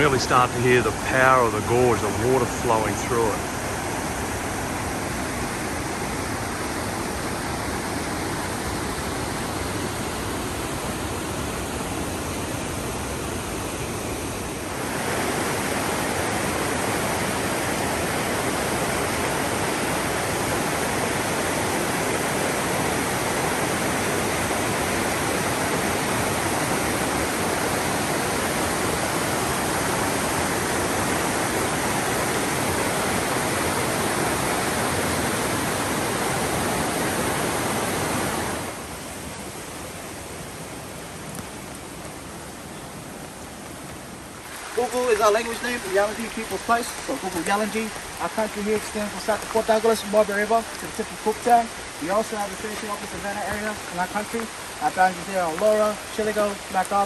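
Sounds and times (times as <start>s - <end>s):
river roaring: 0.0s - 57.0s.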